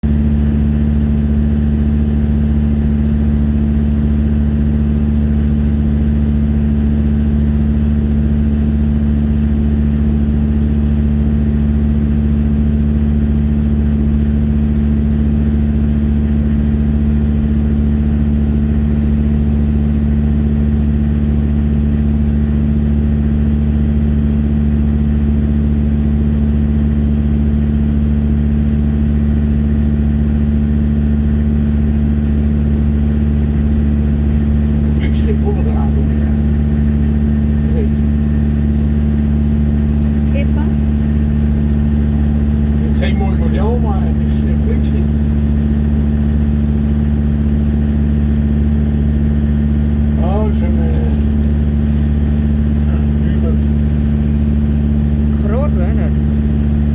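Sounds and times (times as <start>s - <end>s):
boat engine humming: 0.0s - 56.9s.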